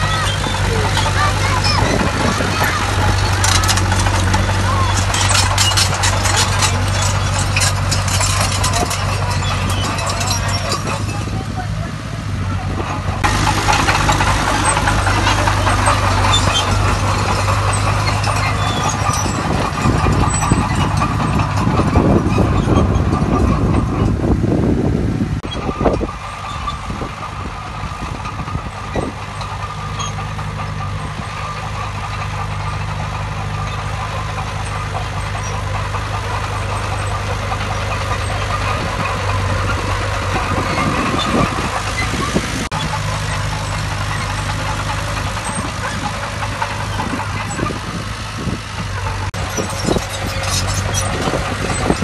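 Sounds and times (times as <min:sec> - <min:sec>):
heavy machine engine running: 0:00.0 - 0:52.0.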